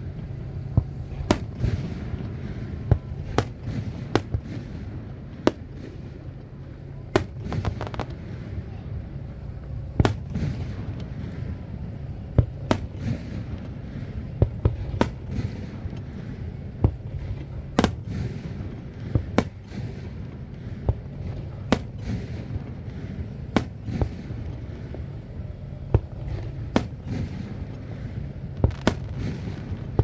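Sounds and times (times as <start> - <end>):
firework shells bursting: 0.0 - 8.4, 9.1 - 30.0
firework crackling: 0.0 - 30.0
steady low rumble: 0.0 - 30.0.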